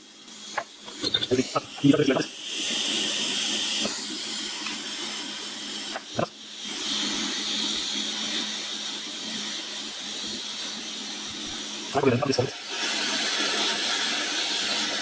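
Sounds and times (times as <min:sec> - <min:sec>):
hot air station hissing: 0:00.0 - 0:15.0.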